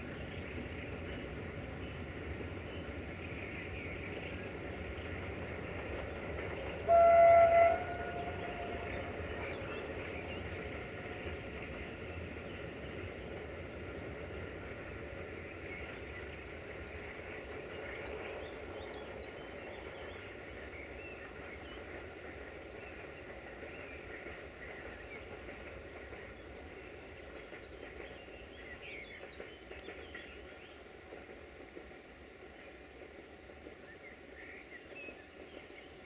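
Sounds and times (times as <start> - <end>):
freight train wagons rumbling: 0.0 - 36.0
birds chirping: 0.2 - 30.9.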